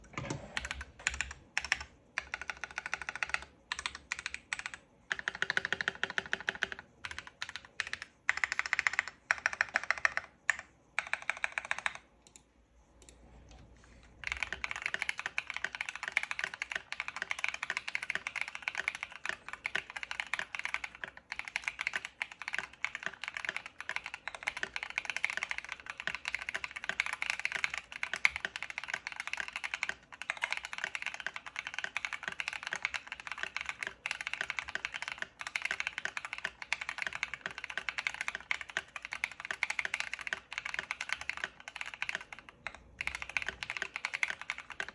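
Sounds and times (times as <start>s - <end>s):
mechanical keyboard typing: 0.0s - 13.2s, 14.2s - 44.9s.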